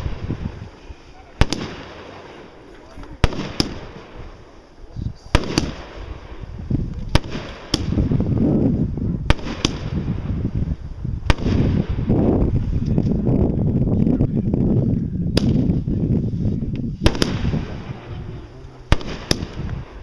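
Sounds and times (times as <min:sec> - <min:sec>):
fireworks bangs: 0:00.0 - 0:13.2, 0:15.3 - 0:16.0, 0:16.9 - 0:20.0.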